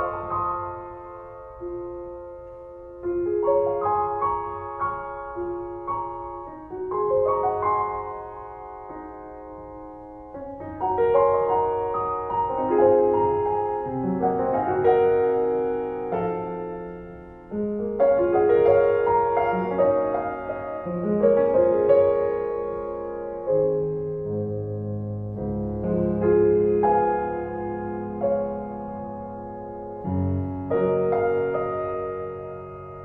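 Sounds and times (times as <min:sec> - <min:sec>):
slow solo piano music: 0:00.0 - 0:33.0.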